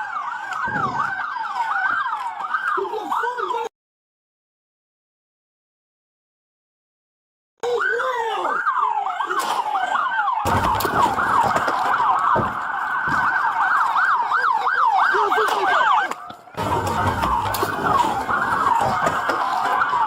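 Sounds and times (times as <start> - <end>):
sirens yelping: 0.0 - 3.7, 7.6 - 20.0.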